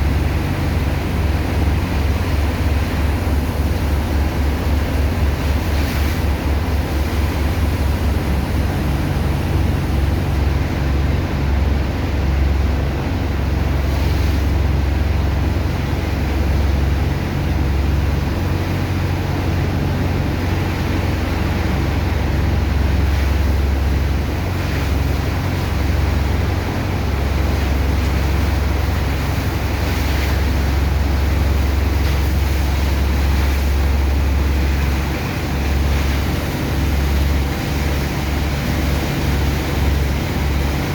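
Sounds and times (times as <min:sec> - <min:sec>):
rushing water and sand slurry: 0:00.0 - 0:40.9
water pump engine droning: 0:00.0 - 0:40.9.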